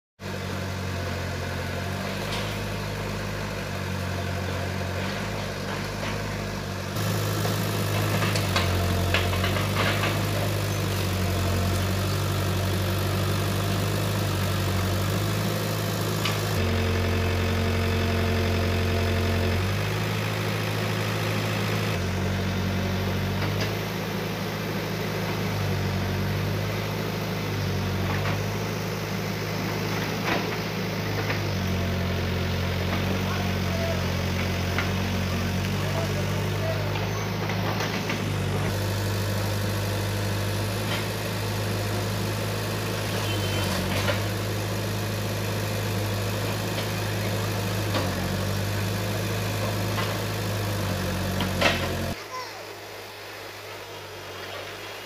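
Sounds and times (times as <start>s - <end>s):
diesel engine running: 0.2s - 55.0s.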